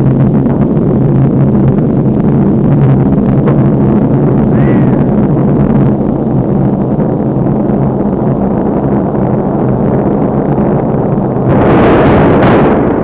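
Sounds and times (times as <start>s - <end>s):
loud rumbling with low drone: 0.0s - 13.0s.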